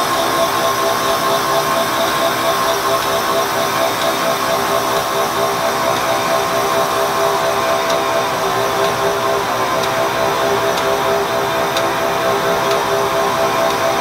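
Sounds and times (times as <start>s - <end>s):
air grinding spindle whining: 0.0s - 14.0s.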